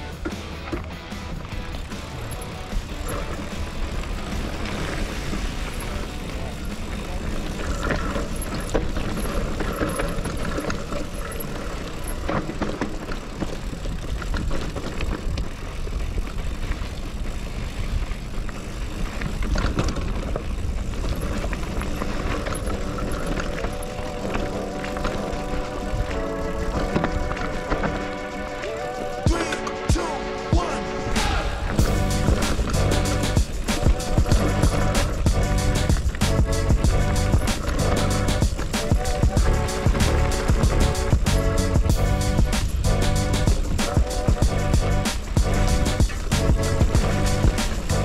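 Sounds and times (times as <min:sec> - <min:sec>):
bike frame and chain rattling: 0:00.0 - 0:29.3, 0:31.7 - 0:48.0
tyres rolling over rocks: 0:00.0 - 0:29.9, 0:31.4 - 0:48.0.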